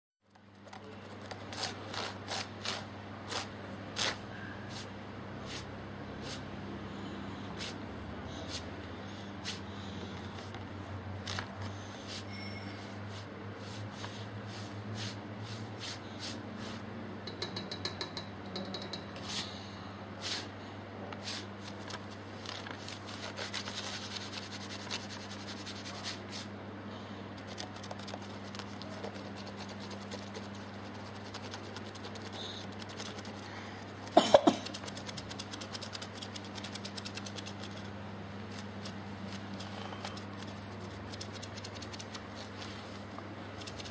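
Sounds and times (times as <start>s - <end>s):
steady low hum: 0.2s - 43.9s.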